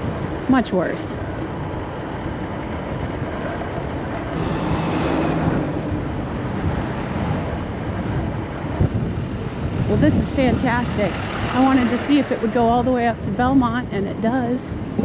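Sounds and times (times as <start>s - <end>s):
rushing wind noise: 0.0s - 15.0s
street traffic: 0.0s - 15.0s.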